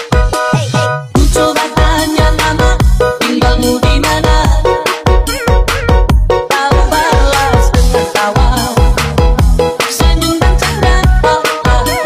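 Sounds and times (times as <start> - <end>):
upbeat pop song: 0.0 - 12.0.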